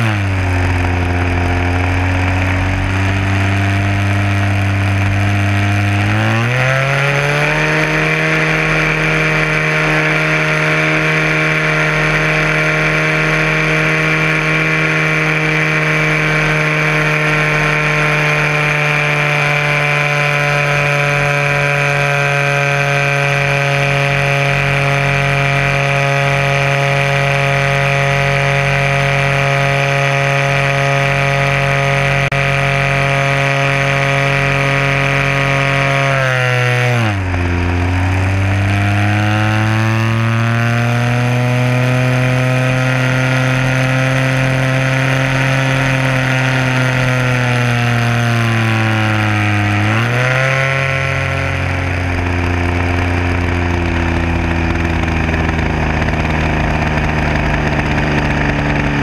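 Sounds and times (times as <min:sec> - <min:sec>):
model plane engine running: 0:00.0 - 0:59.0.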